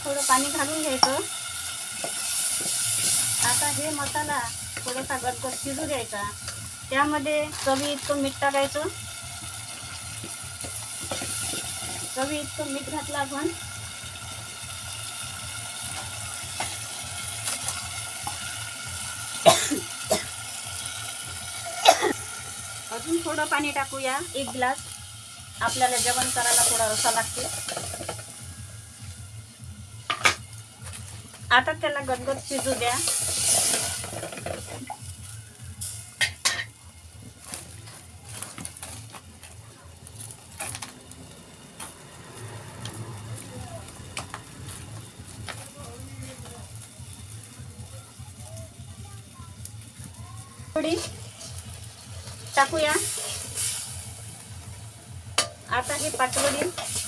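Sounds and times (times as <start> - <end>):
gravy sizzling in a pan: 0.0 - 57.0.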